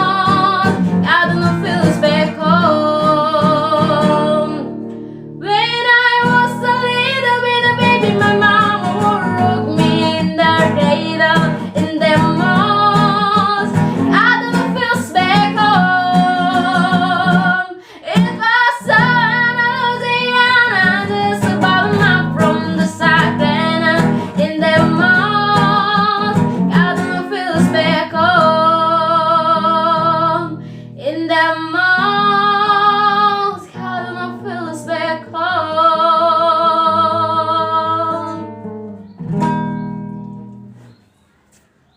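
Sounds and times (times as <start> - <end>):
girl singing with vibrato: 0.0 - 4.8, 5.4 - 38.6.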